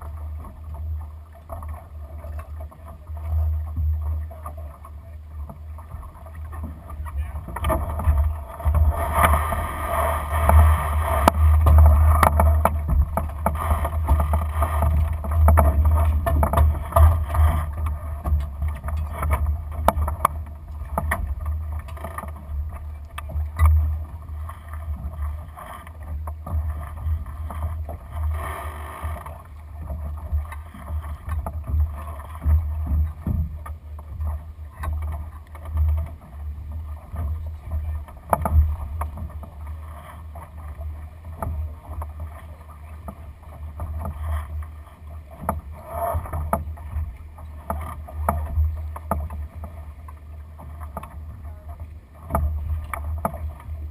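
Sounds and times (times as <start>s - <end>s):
wind and water rumble: 0.0s - 53.9s
boat gear clicks and knocks: 6.5s - 9.6s, 10.3s - 36.4s, 37.0s - 42.4s, 43.0s - 53.9s.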